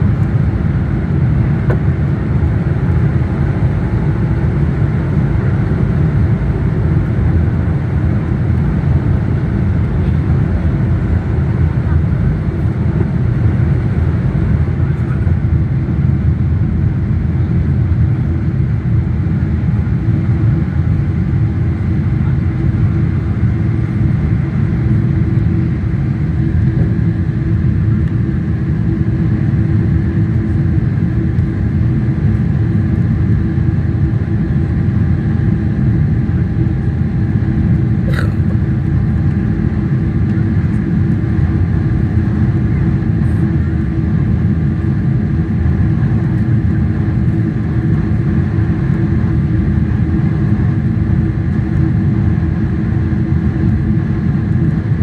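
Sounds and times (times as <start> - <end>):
jet engines rumbling: 0.0 - 55.0
steady hum: 0.0 - 55.0.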